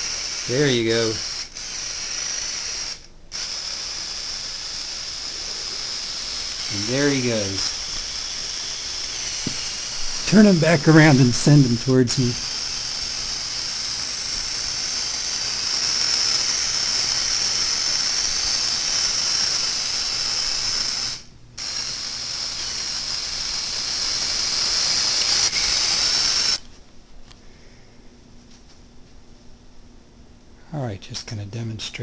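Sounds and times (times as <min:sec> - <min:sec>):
robot motors whirring: 0:00.0 - 0:26.6.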